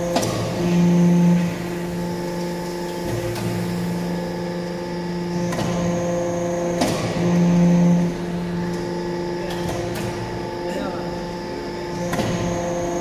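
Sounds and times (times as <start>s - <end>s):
hydraulic press motor hum: 0.0s - 13.0s.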